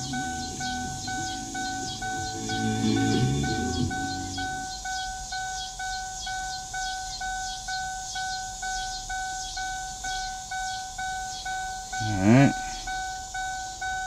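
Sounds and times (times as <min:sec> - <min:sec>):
car warning chime bong: 0:00.0 - 0:14.0.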